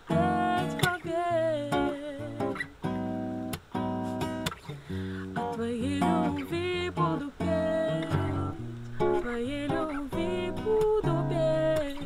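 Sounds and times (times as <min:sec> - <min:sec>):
woman singing wordless line: 0:00.0 - 0:02.8, 0:05.0 - 0:12.0
acoustic guitar strumming: 0:00.0 - 0:12.0.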